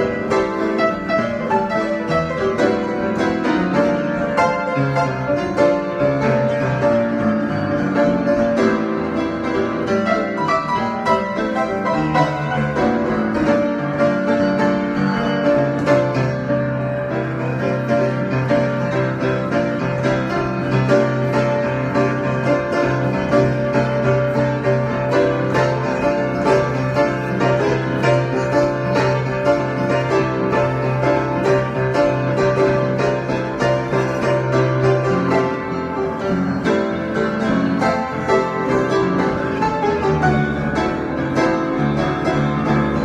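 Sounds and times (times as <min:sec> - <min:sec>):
improvised keyboard music: 0:00.0 - 0:43.0.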